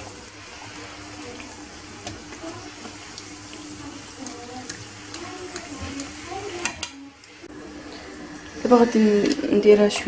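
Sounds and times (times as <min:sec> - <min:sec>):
dough frying in hot oil: 0:00.0 - 0:10.0.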